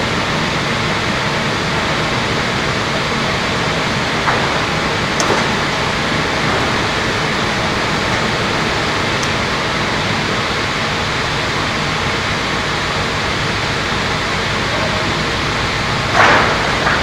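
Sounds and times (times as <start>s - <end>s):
circular saw machine running: 0.0s - 17.0s.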